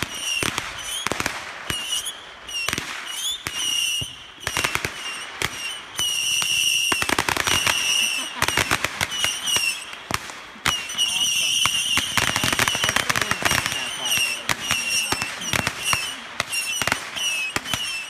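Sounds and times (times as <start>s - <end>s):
firecrackers popping: 0.0s - 18.0s
whistling fireworks: 0.0s - 18.0s.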